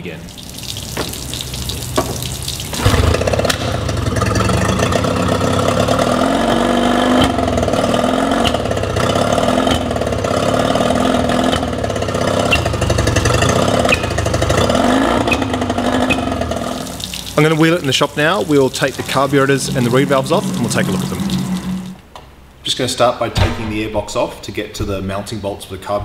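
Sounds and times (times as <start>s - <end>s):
outboard motor starting and running: 0.5s - 22.2s.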